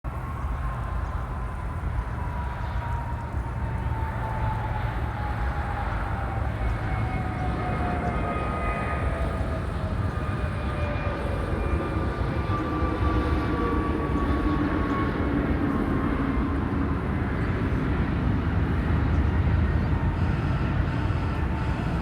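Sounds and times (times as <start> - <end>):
jet airliner flying past: 0.1 - 22.0.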